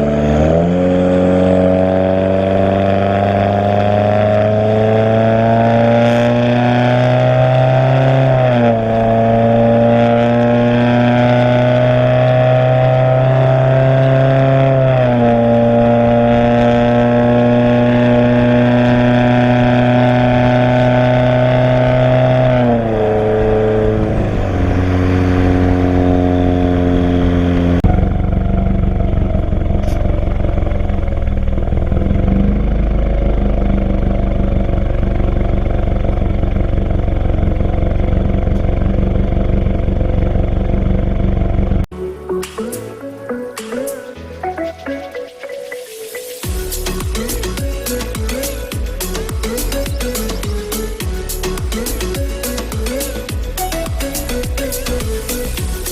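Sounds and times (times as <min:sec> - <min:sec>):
loud car exhaust: 0:00.0 - 0:41.9, 0:46.4 - 0:55.9.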